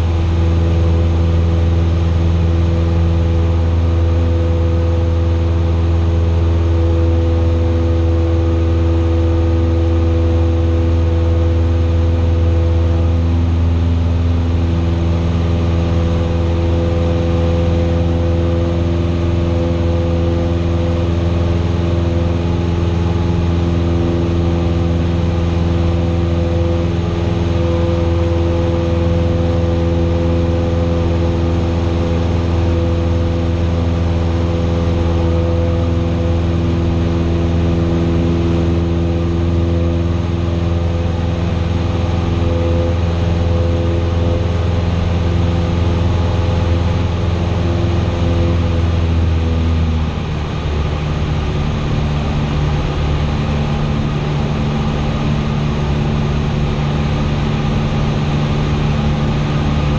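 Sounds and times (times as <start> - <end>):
airplane engine droning in cabin: 0.0 - 59.9.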